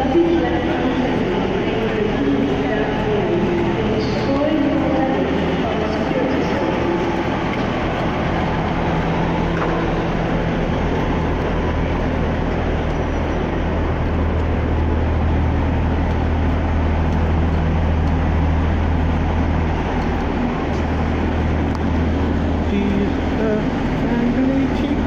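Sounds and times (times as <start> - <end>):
diesel train engine droning: 0.0 - 25.0.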